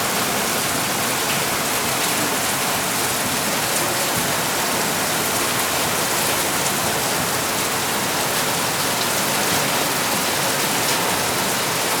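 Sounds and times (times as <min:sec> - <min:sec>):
heavy rain on hard surfaces: 0:00.0 - 0:12.0.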